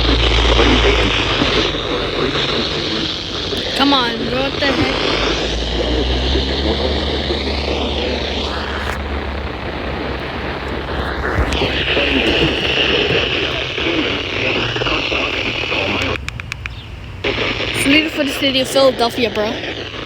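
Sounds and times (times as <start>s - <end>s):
car cabin rumble and hiss: 0.0s - 20.0s.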